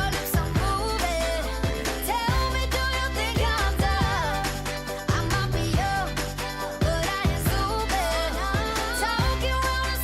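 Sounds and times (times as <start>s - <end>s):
upbeat pop song: 0.0s - 10.0s.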